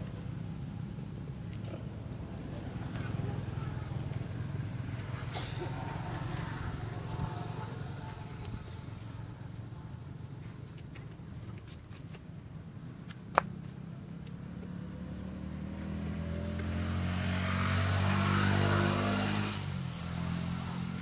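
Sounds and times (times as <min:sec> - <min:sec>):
motor engine passing: 0:00.0 - 0:10.0, 0:13.8 - 0:21.0.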